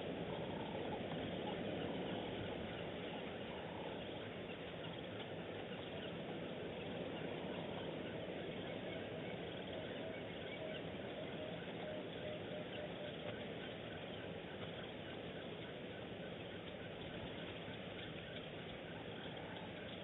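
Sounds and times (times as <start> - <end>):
bird calls and chirps: 0.0 - 20.0
natural ambience: 0.0 - 20.0.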